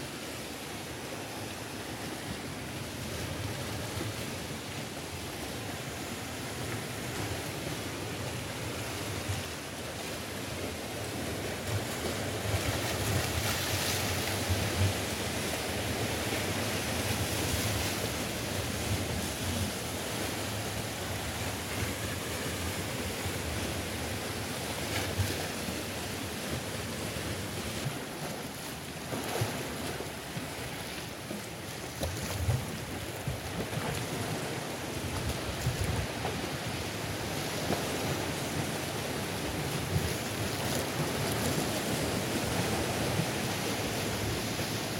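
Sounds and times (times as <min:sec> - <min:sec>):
sea waves breaking on rocks: 0:00.1 - 0:44.9.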